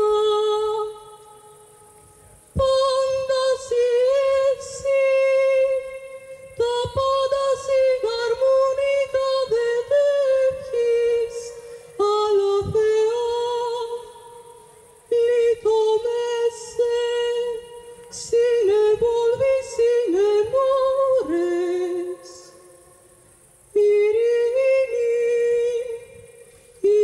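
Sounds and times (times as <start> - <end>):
woman singing unaccompanied: 0.0 - 27.0.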